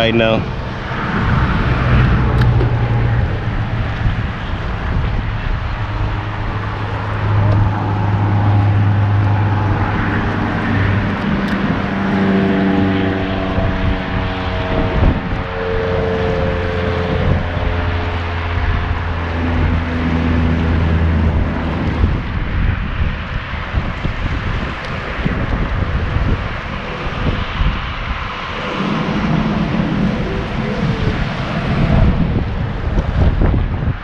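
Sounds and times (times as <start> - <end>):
engine drone: 0.0 - 34.0.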